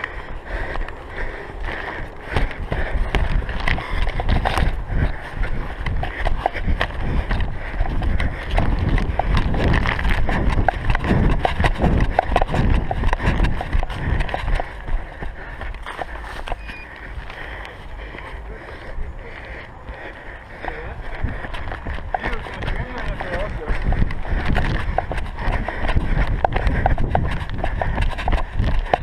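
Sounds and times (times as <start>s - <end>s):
wind on microphone: 0.0s - 18.0s, 19.9s - 29.0s
footsteps on grass: 2.4s - 28.9s.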